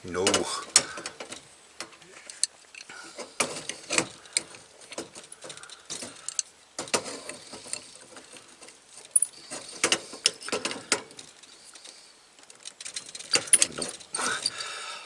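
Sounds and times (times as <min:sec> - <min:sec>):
metal spanners clinking: 0:00.2 - 0:14.8.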